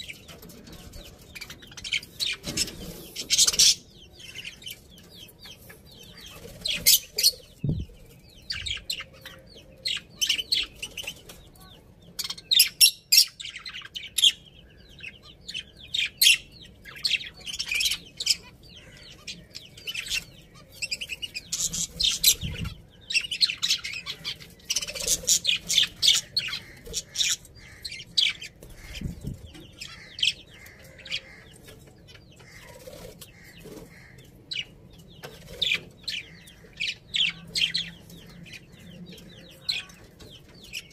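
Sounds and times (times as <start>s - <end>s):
budgerigars chirping: 0.0s - 11.4s, 12.2s - 40.9s.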